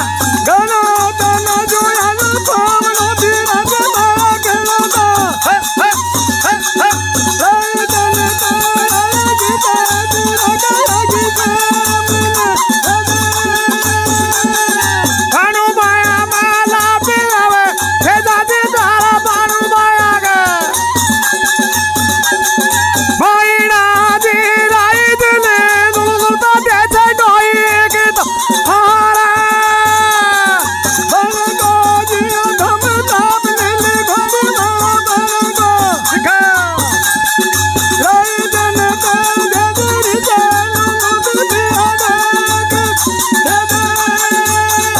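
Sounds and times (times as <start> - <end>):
dholak drum beat: 0.0 - 44.9
double flute folk melody: 0.0 - 44.9.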